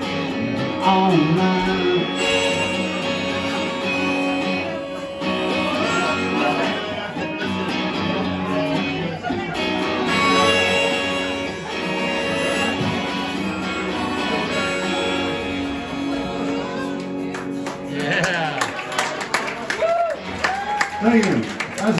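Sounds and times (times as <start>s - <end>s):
electric guitar rock chords: 0.0s - 19.0s.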